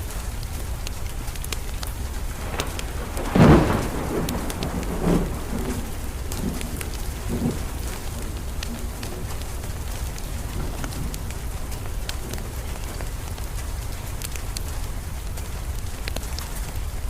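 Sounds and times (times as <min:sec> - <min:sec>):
steady rain: 0:00.0 - 0:17.0
wood fire crackling: 0:00.0 - 0:17.0
thunder rumbling: 0:01.4 - 0:16.2.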